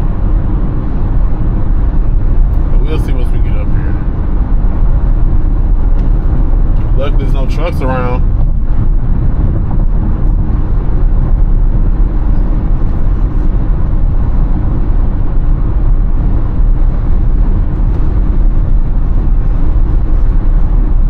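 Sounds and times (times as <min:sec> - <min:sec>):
car cabin tyre and wind rumble: 0:00.0 - 0:21.0.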